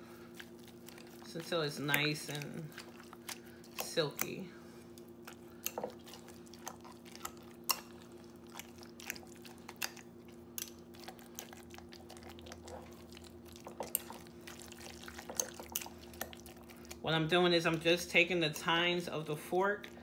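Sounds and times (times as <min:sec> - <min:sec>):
wet mashing: 0:00.0 - 0:18.2.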